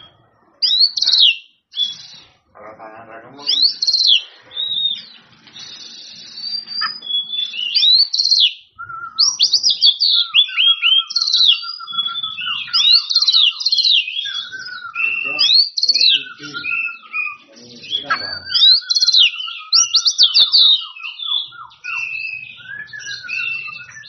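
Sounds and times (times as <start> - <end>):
bird singing whistled song: 0.0 - 2.4, 3.4 - 24.0.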